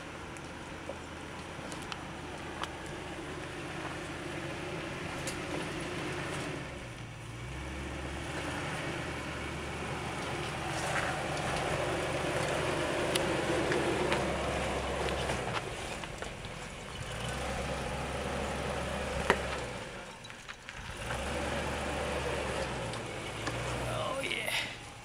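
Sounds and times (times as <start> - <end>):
stones clicking under tyres: 0.0 - 7.1, 9.8 - 23.9
car engine running low: 0.0 - 25.0.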